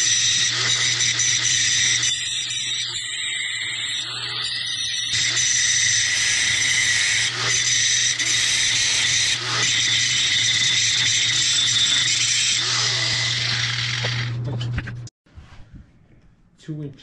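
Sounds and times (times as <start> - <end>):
angle grinder grinding steel: 0.0 - 14.5.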